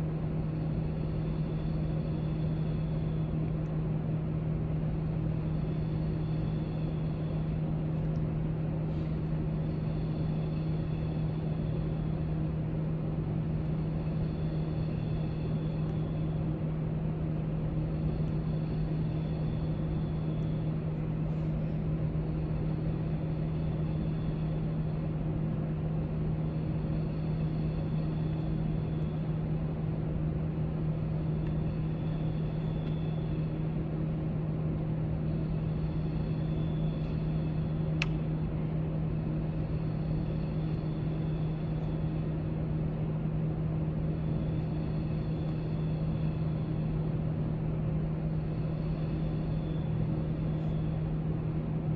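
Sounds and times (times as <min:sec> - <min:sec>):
faint high whine: 0:00.0 - 0:51.9
low drone with hiss: 0:00.0 - 0:51.9.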